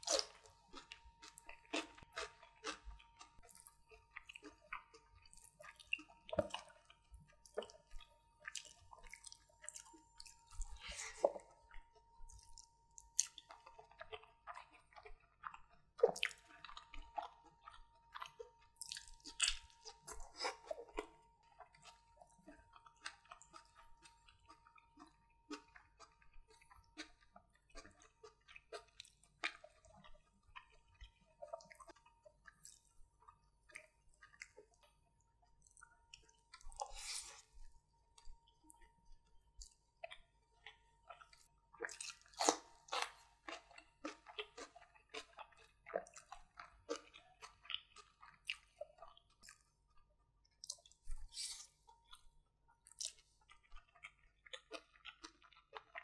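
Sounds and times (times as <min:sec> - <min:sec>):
mouth chewing clicks and smacks: 0:00.0 - 0:56.0.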